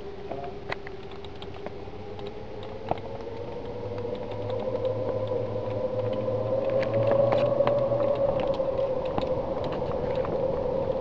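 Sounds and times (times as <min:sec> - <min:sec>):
howling tone rising in pitch: 0:00.0 - 0:11.0
low hum: 0:00.0 - 0:11.0.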